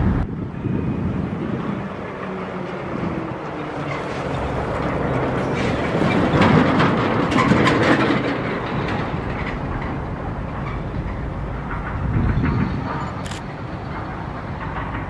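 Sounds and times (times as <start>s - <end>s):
diesel locomotive engine running: 0.0s - 15.0s
train wheels clicking on track: 1.1s - 15.0s.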